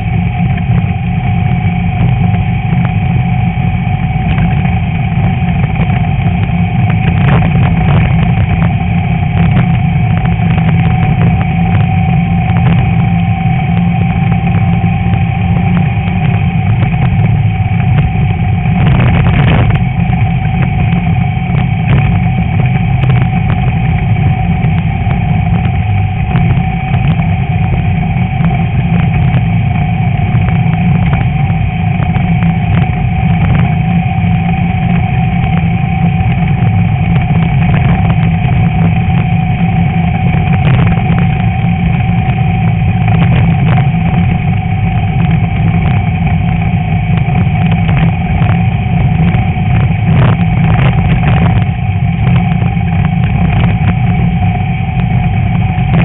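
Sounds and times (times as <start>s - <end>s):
car engine running hard: 0.0s - 56.0s.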